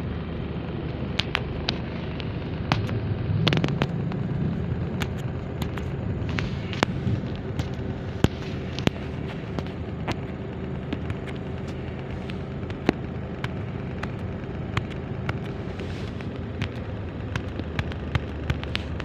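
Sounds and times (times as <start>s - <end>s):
car cabin rumble: 0.0s - 19.0s
sharp clicks and taps: 1.1s - 19.0s.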